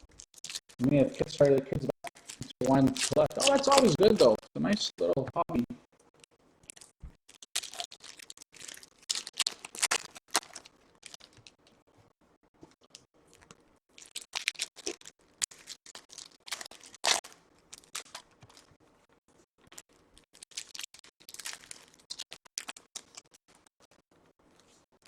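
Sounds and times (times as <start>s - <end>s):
foil wrappers crinkling and tearing: 0.0s - 4.4s, 6.6s - 11.7s, 13.3s - 18.7s, 19.6s - 24.8s.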